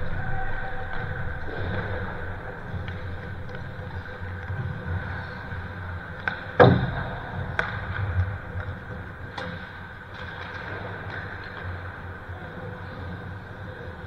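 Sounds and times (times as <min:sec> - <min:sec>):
low rink rumble: 0:00.0 - 0:14.0
hockey sticks and puck clacking: 0:00.8 - 0:14.0.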